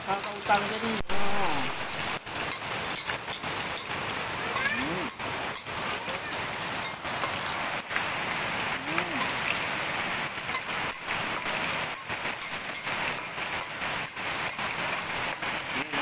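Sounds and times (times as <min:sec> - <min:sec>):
fish frying in oil: 0:00.0 - 0:16.0.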